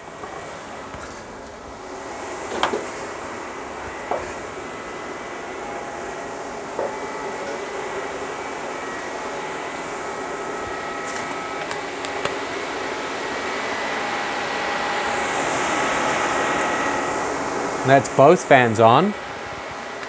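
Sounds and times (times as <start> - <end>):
radiator cooling fans running: 0.0 - 20.0.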